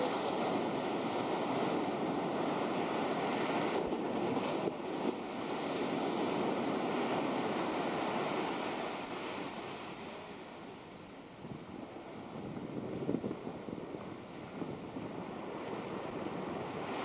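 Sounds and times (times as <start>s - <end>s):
ocean surf breaking: 0.0s - 10.8s, 13.8s - 17.0s.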